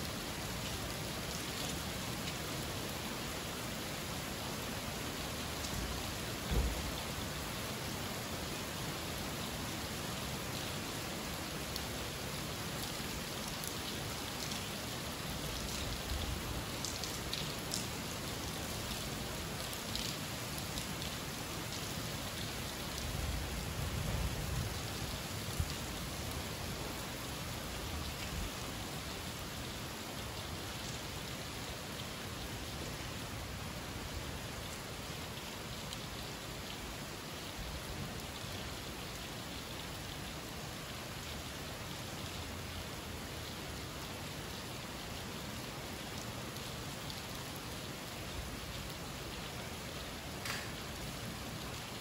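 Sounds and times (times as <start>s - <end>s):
rain hissing steadily: 0.0s - 52.0s.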